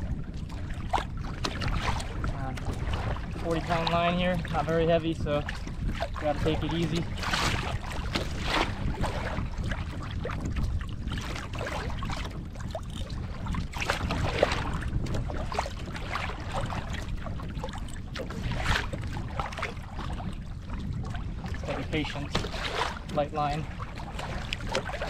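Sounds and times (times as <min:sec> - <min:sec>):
water slapping against kayak hull: 0:00.0 - 0:25.0
wind on microphone: 0:00.0 - 0:25.0.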